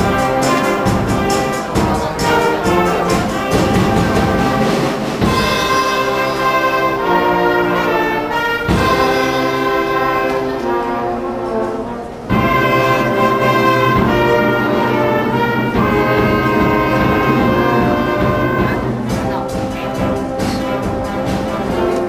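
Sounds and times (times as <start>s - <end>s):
orchestra playing held chords: 0.0s - 22.0s.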